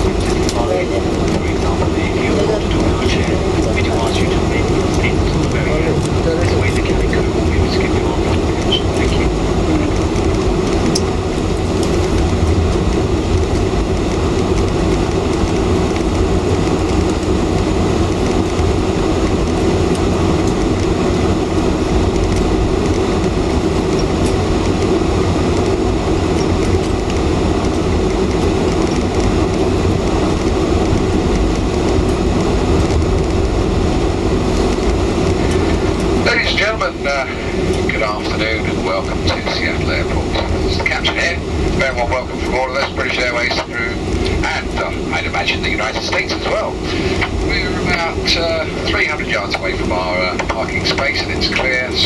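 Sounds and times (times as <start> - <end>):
aircraft cabin rumble: 0.0 - 52.0.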